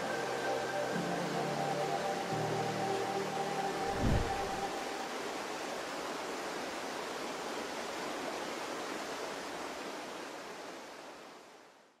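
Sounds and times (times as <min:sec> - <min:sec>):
river water rushing: 0:00.0 - 0:11.9.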